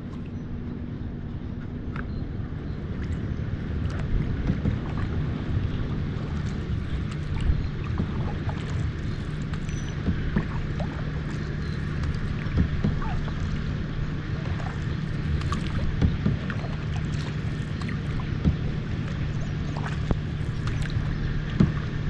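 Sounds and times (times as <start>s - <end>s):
steady low hum: 0.0s - 22.0s
water lapping against kayak hull: 0.0s - 22.0s
small splashes: 2.8s - 22.0s.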